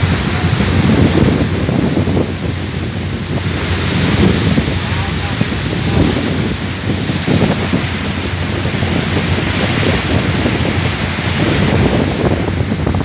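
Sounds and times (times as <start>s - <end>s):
steady low hum: 0.0s - 12.8s
churning ship wake: 0.0s - 13.0s
sea rushing: 0.0s - 13.0s
wind buffeting microphone: 0.0s - 13.0s.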